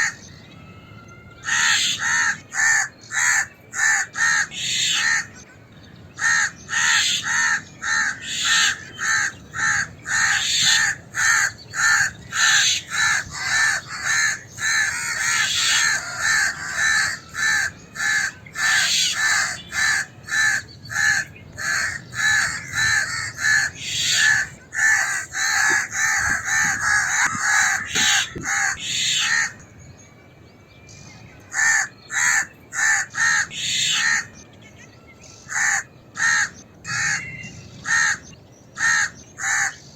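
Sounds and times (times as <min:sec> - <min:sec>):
crows and mynas harsh caws: 0:01.4 - 0:05.3, 0:06.2 - 0:29.6, 0:31.5 - 0:34.3, 0:35.5 - 0:39.8.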